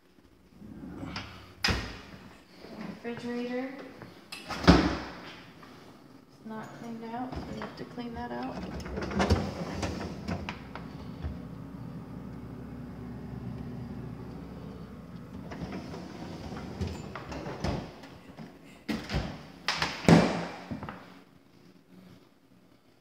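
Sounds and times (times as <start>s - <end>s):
refrigerator hum: 0.1s - 22.5s.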